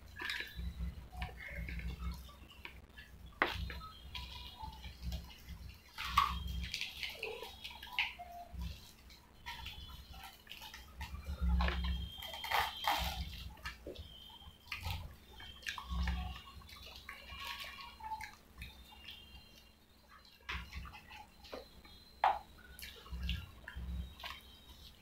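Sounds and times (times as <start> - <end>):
chewing: 0.0 - 25.0
wet food squelching: 0.0 - 25.0.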